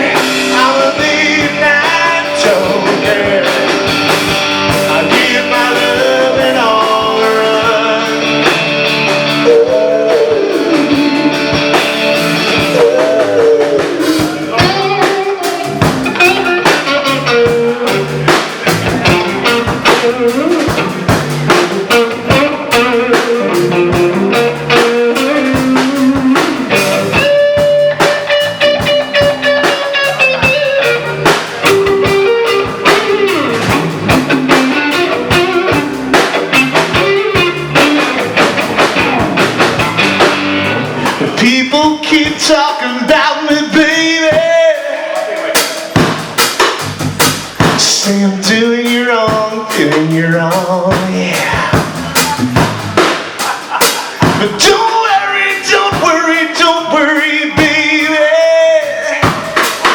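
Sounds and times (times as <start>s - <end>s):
lead guitar: 0.0s - 48.0s, 49.0s - 59.9s
bass guitar: 0.0s - 59.9s
drum kit: 0.0s - 59.9s.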